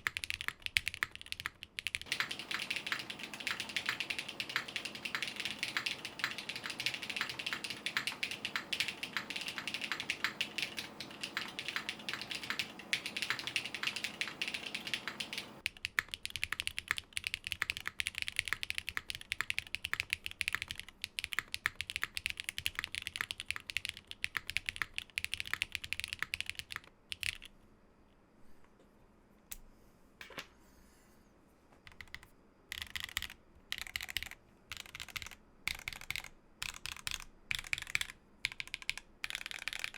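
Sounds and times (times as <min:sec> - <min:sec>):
mechanical keyboard typing: 0:00.0 - 0:27.5, 0:31.8 - 0:39.9.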